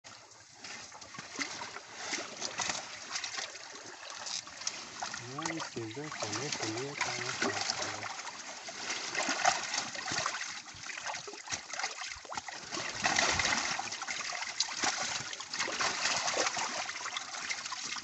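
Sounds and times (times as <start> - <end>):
water splashing and trickling: 0.0 - 18.0
water pouring: 1.1 - 18.0.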